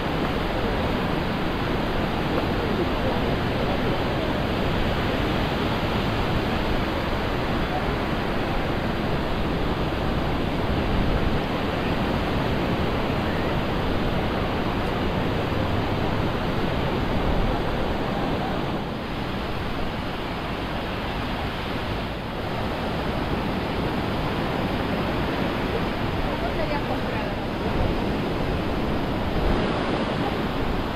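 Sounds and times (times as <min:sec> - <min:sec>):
waves breaking on beach: 0:00.0 - 0:30.9.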